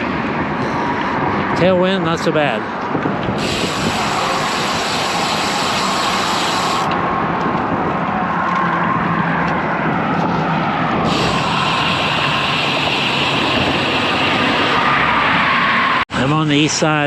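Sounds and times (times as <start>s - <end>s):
wind rushing on microphone: 0.0s - 16.0s
cars and trucks passing: 0.0s - 17.0s.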